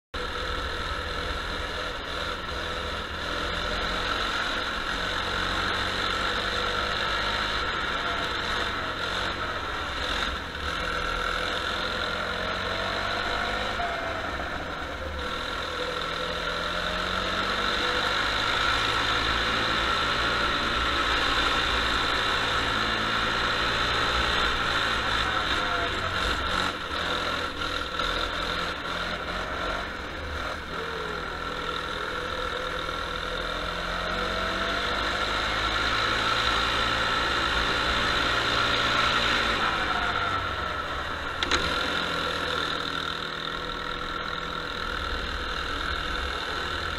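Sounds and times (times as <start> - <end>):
kart engine revving: 0.2 - 46.9.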